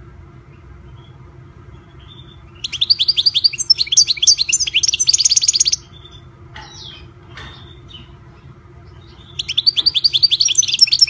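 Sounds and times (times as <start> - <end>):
finch twittering and trilling: 0.4 - 11.0.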